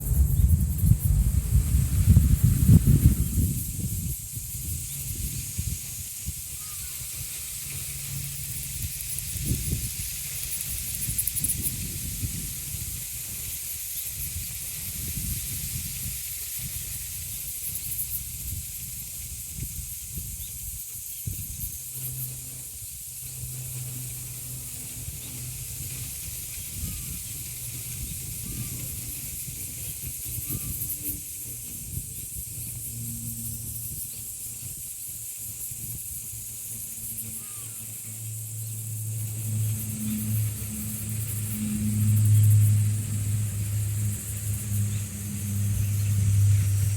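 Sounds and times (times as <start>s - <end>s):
cicadas droning: 0.0s - 46.9s
wind gusting through trees: 0.0s - 46.9s
wind rumbling on microphone: 0.0s - 46.9s.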